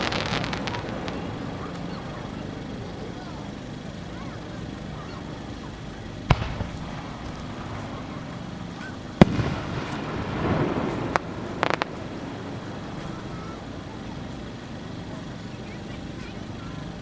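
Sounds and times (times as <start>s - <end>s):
fireworks booming: 0.0s - 16.6s.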